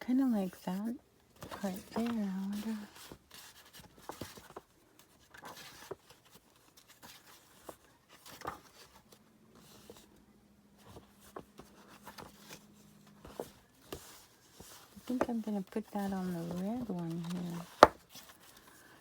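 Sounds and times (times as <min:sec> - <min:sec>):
paper rustling and sliding: 0:01.4 - 0:10.1, 0:10.8 - 0:19.0.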